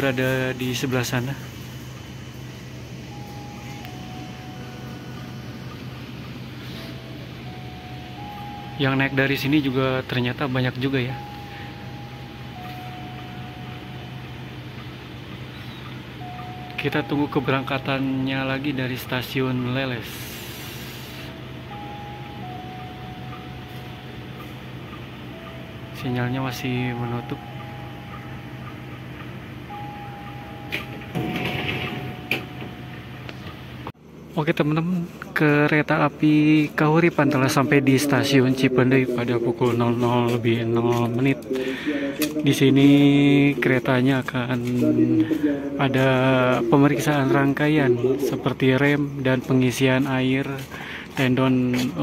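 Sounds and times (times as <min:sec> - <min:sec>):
train machinery hum: 0:00.0 - 0:52.0.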